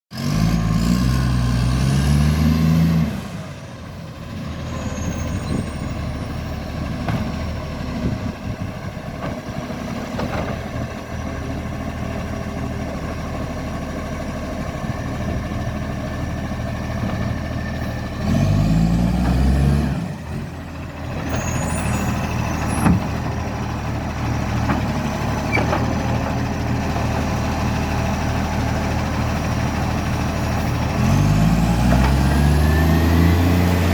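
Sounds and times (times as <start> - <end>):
truck diesel engine pulling away: 0.1 - 33.9.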